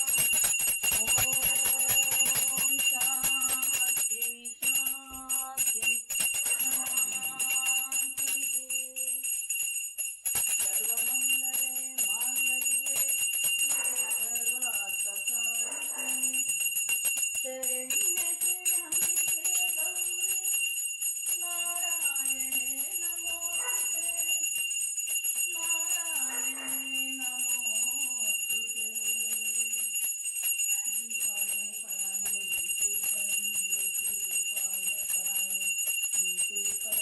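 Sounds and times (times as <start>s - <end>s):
hand bell ringing: 0.0s - 37.0s.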